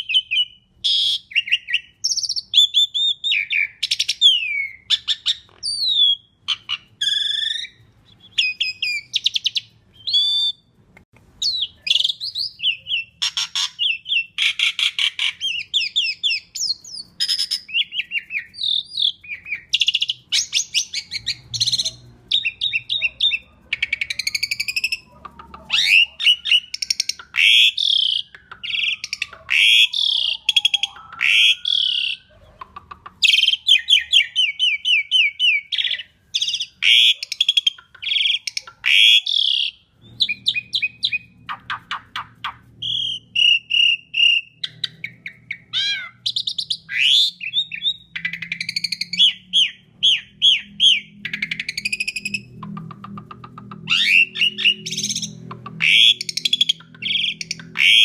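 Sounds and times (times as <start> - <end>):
starling singing: 0.0 - 10.7, 11.4 - 58.0.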